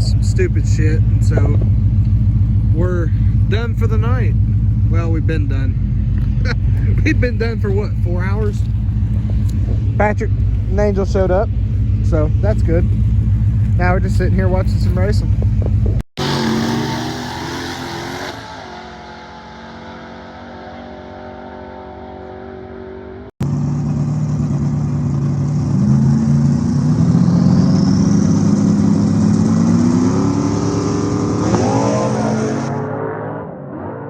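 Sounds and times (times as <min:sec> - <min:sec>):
drag race car engines: 0:00.0 - 0:34.0.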